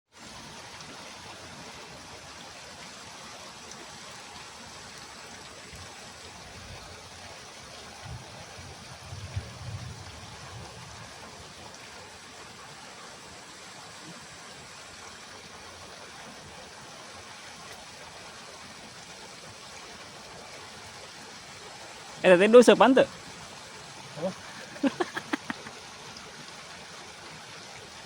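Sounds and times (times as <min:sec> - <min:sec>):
water rushing: 0:00.2 - 0:28.0.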